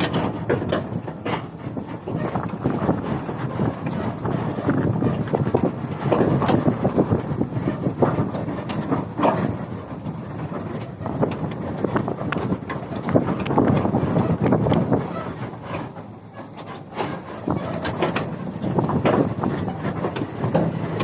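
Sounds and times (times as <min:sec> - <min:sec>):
excavator engine rumble: 0:00.0 - 0:21.0.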